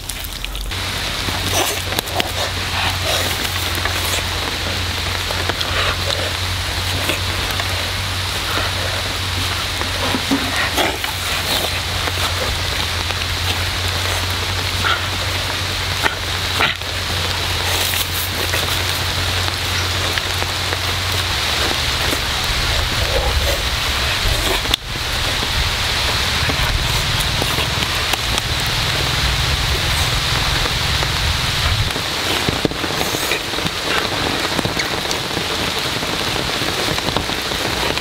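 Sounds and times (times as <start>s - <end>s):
low rumble: 0.0s - 32.9s
steady outdoor hiss: 0.0s - 38.0s.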